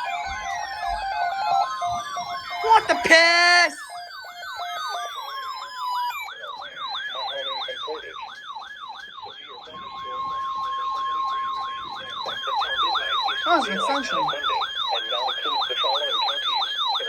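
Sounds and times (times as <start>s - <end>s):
electronic siren yelping: 0.0s - 17.0s
steady warning alarm tone: 0.0s - 17.0s.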